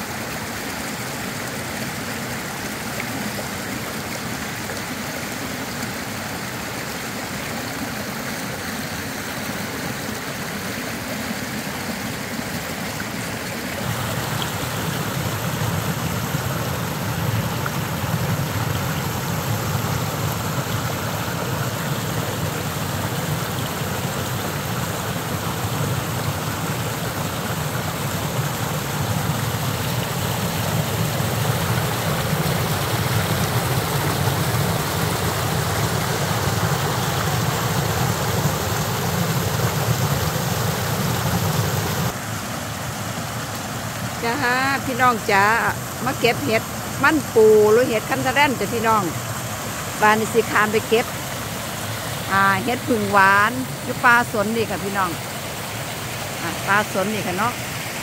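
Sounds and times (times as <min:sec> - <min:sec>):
cascade pouring into pool: 0:00.0 - 0:44.2, 0:44.8 - 0:58.0
stream rushing over rocks: 0:00.0 - 0:58.0.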